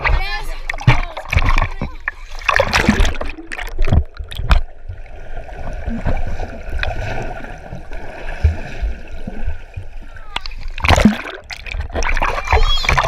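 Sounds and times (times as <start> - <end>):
water gurgling and sloshing: 0.0 - 13.0.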